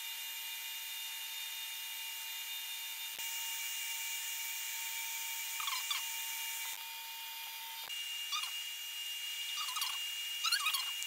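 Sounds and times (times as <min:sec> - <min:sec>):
laser engraver fan hiss: 0:00.0 - 0:11.0.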